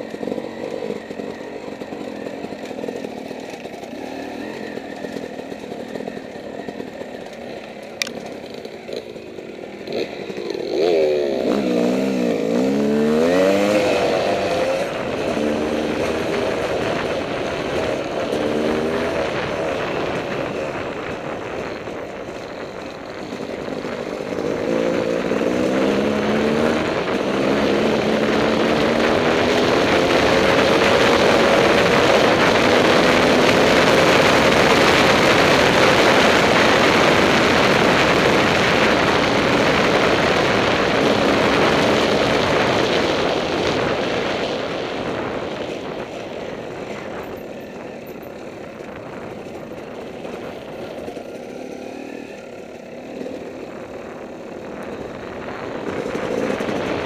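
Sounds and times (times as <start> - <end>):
dirt bike engine revving: 0.0 - 57.0
wind rushing over microphone: 9.9 - 57.0.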